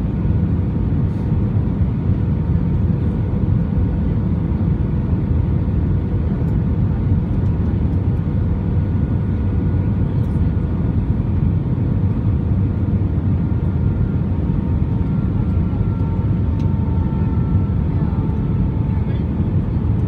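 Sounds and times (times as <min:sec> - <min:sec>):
aircraft cabin rumble: 0:00.0 - 0:20.0
faint whining engine tones: 0:00.0 - 0:20.0.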